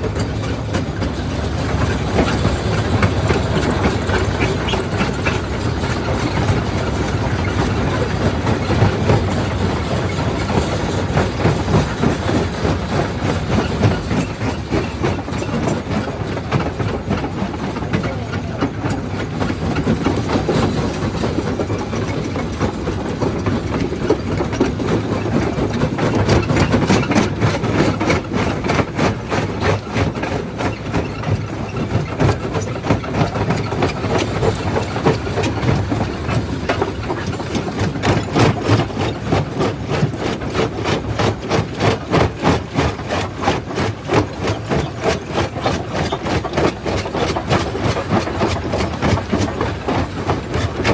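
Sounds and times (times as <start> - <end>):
rock crusher rumbling: 0.0 - 50.9.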